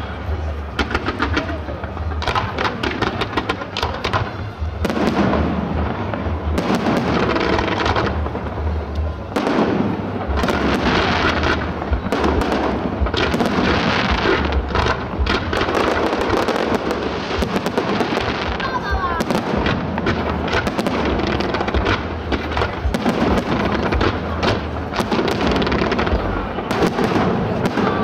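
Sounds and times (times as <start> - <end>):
fireworks cracking and banging: 0.0 - 28.0
low rumble: 0.0 - 28.0.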